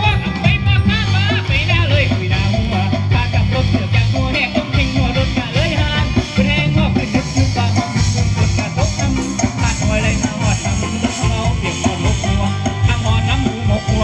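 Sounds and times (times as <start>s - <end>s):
heavy bass beat: 0.0s - 14.0s
loud amplified band music: 0.0s - 14.0s
person singing: 0.0s - 14.0s.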